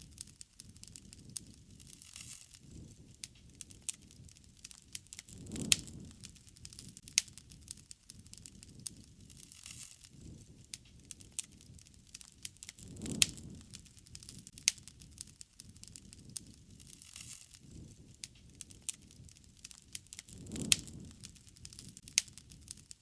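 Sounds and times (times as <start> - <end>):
fire pops and snaps: 0.0 - 23.0
low rumble of flames: 0.0 - 23.0
wood fire crackling: 0.0 - 23.0.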